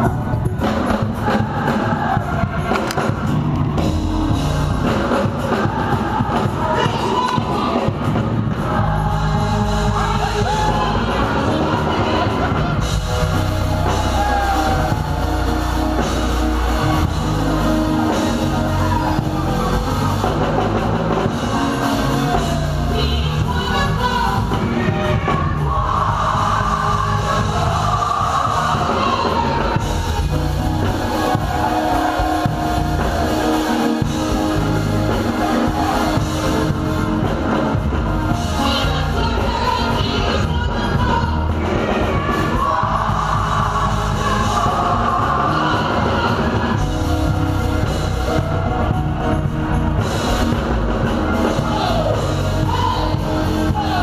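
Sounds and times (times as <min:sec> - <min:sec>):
people singing: 0:00.0 - 0:54.0
worship band playing: 0:00.0 - 0:54.0.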